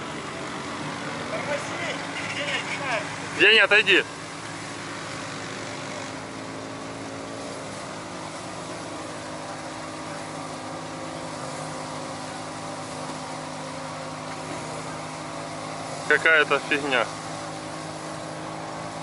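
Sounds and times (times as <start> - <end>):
truck engine running under load: 0.0 - 19.0.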